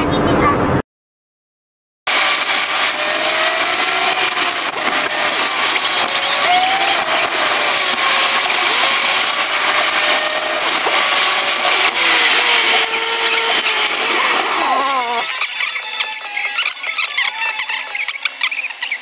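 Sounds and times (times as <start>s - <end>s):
sped-up engine and road noise: 2.1s - 19.0s.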